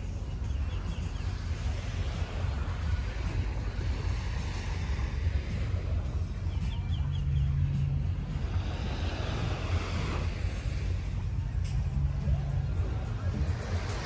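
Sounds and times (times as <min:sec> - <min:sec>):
faint small waves: 0:00.0 - 0:14.0.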